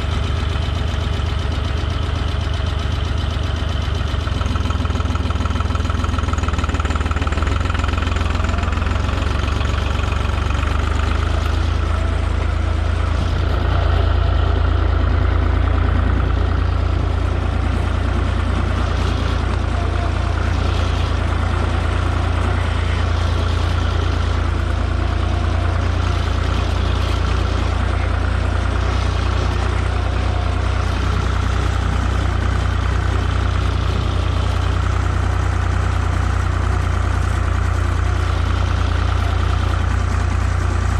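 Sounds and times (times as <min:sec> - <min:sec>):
tractor engine humming: 0:00.0 - 0:40.9.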